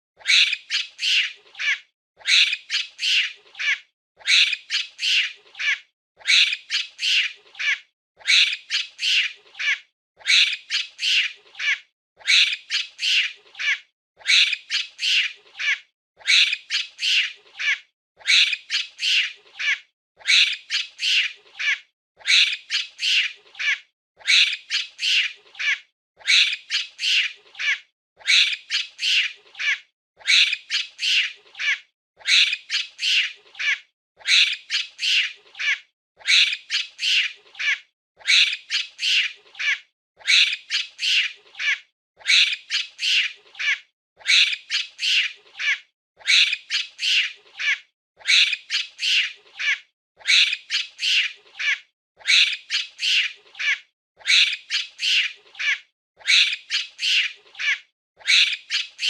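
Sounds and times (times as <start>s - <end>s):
monkey screeching calls: 0.2s - 59.0s.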